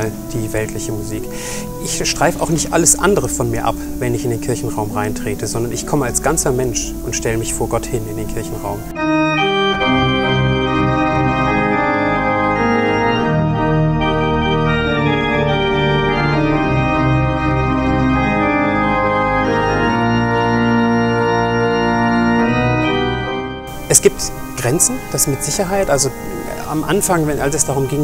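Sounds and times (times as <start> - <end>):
pipe organ playing chords: 0.0 - 28.0.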